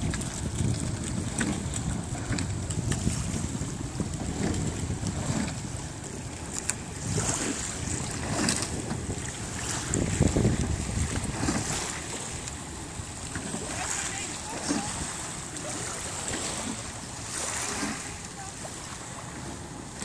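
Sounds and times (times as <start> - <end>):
oars clicking and splashing: 0.0 - 20.0
water noise: 0.0 - 20.0
wind buffeting microphone: 0.0 - 20.0.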